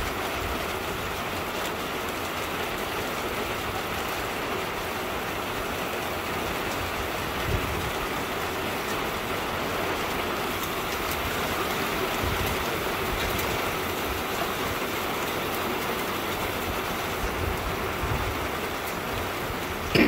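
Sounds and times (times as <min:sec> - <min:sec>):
rain on grass and gravel: 0:00.0 - 0:20.0.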